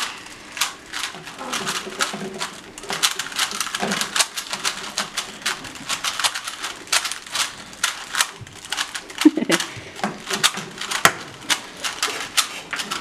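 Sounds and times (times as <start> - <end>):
plastic puzzle cubes clicking: 0.0 - 13.0.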